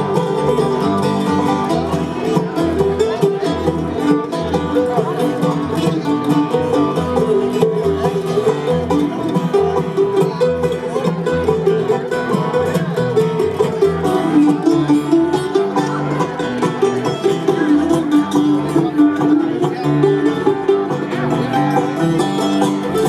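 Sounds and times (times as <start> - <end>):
banjo picking: 0.0 - 23.0
bluegrass band playing: 0.0 - 23.0
low bass notes: 0.0 - 23.0.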